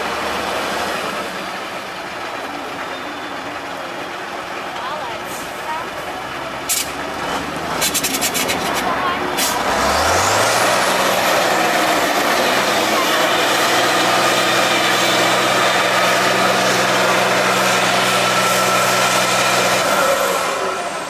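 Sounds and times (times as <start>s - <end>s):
truck diesel engine under load: 0.0s - 21.0s.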